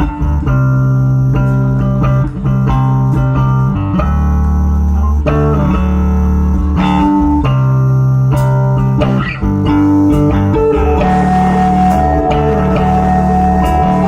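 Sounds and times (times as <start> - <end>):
bass guitar: 0.0 - 14.0
electric guitar: 0.0 - 14.0.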